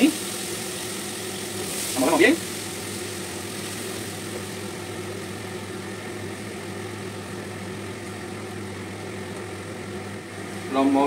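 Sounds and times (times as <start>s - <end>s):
extractor hood fan humming: 0.0s - 11.0s.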